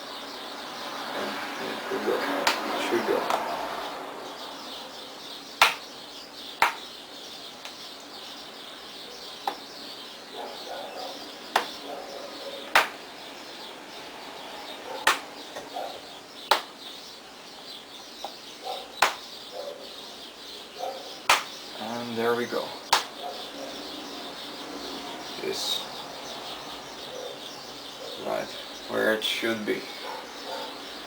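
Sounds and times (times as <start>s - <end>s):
birds chirping faintly: 0.0s - 31.0s.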